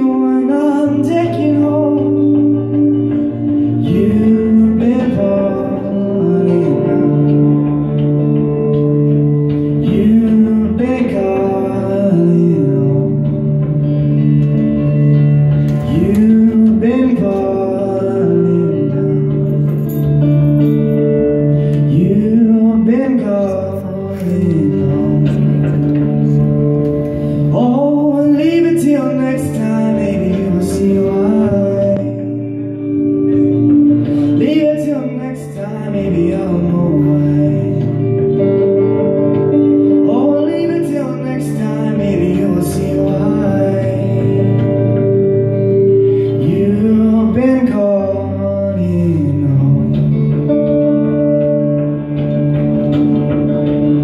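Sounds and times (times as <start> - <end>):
man singing: 0.0 - 53.0
guitar chords: 0.0 - 54.0.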